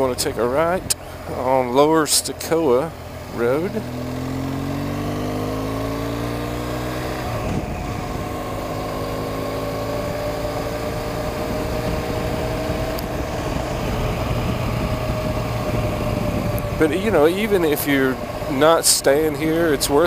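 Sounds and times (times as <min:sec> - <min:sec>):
gear change: 0:00.0 - 0:20.0
motorcycle engine accelerating: 0:00.0 - 0:20.0
wind and road noise: 0:00.0 - 0:20.0.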